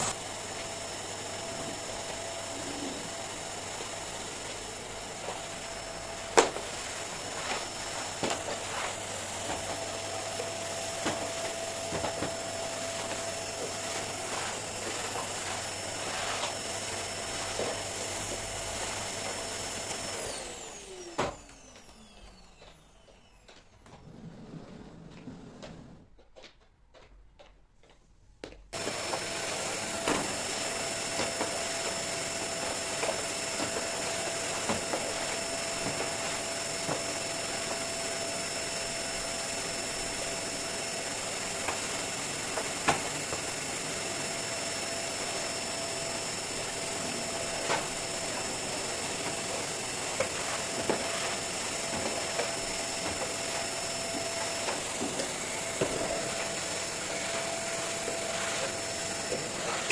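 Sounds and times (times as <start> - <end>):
vacuum cleaner running: 0.0 - 26.0, 28.4 - 59.9.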